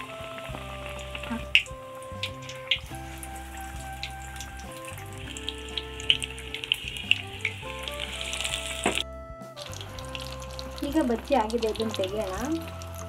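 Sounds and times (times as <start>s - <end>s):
food frying in hot oil: 0.0s - 9.0s, 9.6s - 13.0s
background music: 0.0s - 13.0s.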